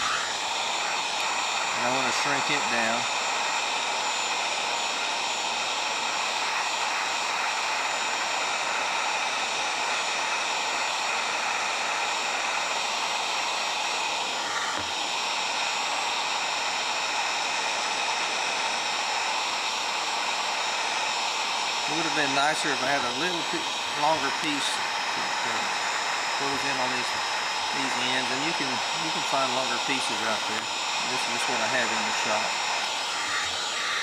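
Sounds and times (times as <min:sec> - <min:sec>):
heat gun blowing air: 0:00.0 - 0:34.0.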